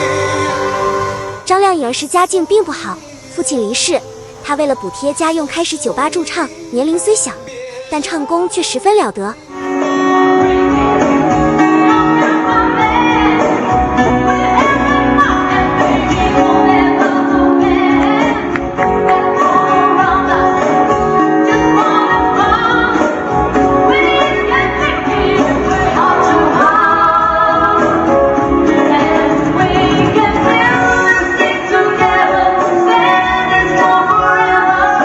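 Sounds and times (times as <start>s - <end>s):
woman singing: 0.0s - 10.7s, 11.5s - 35.0s
backing music: 0.0s - 35.0s.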